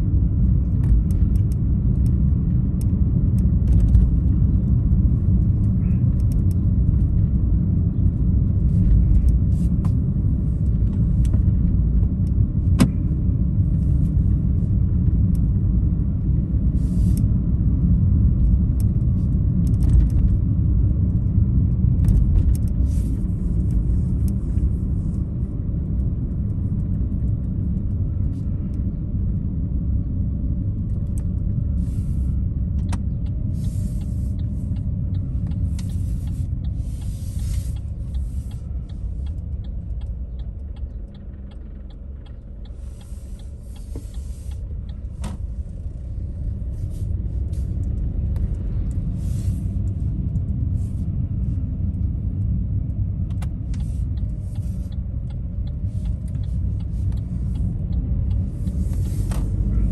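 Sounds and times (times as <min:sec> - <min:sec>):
car engine rumble: 0:00.0 - 0:59.9
car road noise: 0:00.0 - 0:59.9.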